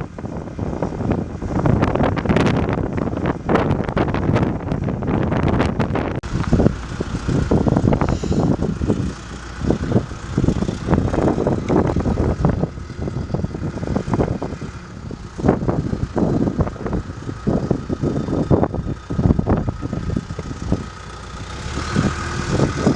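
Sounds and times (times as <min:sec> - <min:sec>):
diesel engine rumbling: 0:00.0 - 0:22.9.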